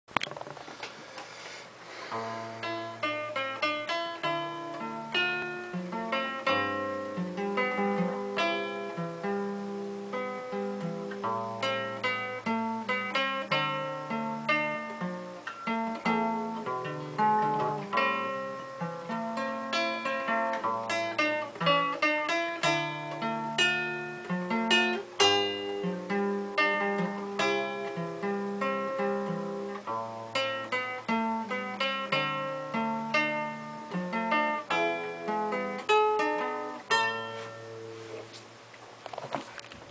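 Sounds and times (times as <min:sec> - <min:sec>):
classical guitar fingerstyle: 0:02.1 - 0:39.9.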